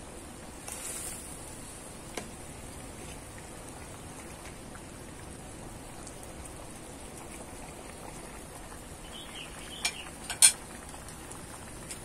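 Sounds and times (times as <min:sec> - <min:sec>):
faint fire crackles: 0:00.0 - 0:12.0
food simmering with bubbling hiss: 0:00.0 - 0:12.0.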